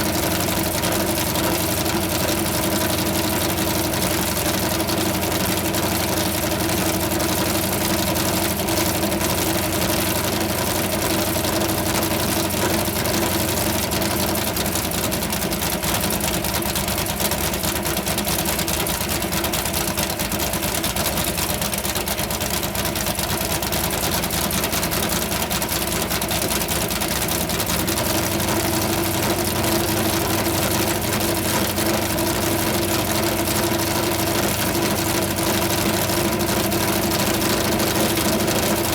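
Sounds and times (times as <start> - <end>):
racing engine idling: 0.0 - 38.9.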